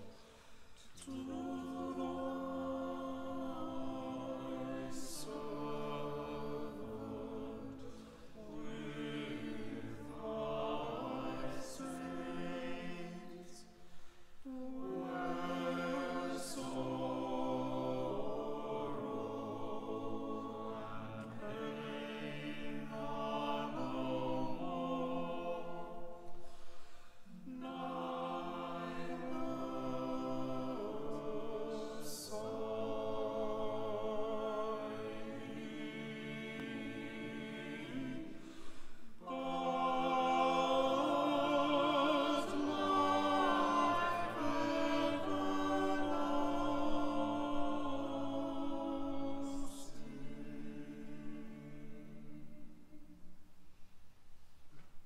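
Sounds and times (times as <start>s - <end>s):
choir singing unaccompanied: 0.0s - 53.2s.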